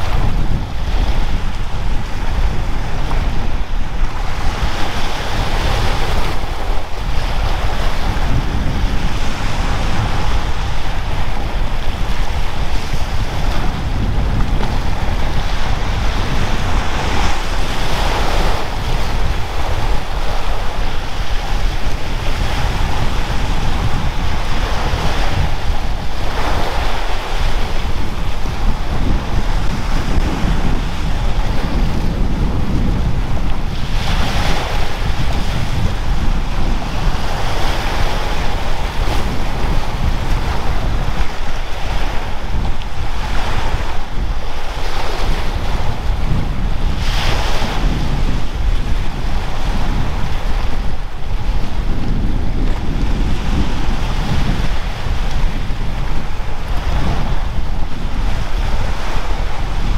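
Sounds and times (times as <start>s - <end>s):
surf washing onto a beach: 0.0s - 59.9s
wind buffeting the microphone: 0.0s - 59.9s.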